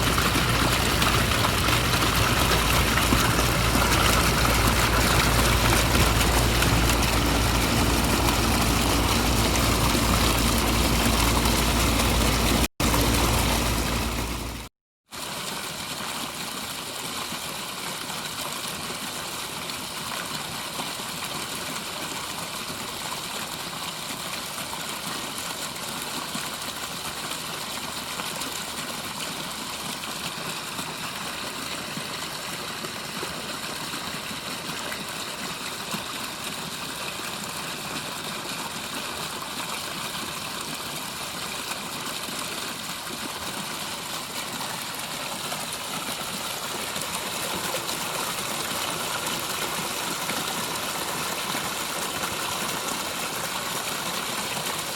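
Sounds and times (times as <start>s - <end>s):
water splashing over rocks: 0.0s - 54.9s.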